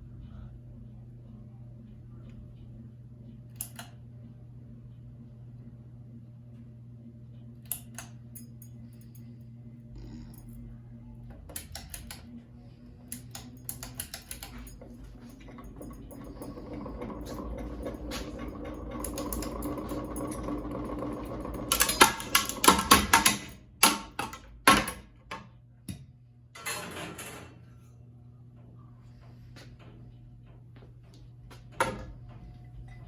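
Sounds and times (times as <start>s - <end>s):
ceiling fan motor hum: 0.0s - 33.0s.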